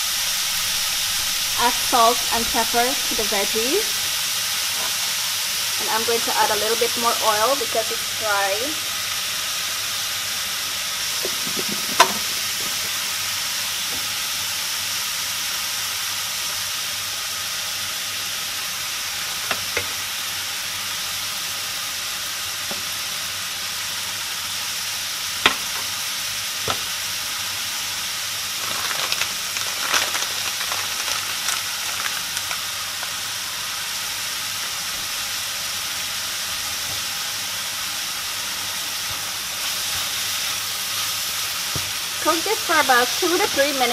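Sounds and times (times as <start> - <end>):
vegetables sizzling in oil: 0.0 - 43.9.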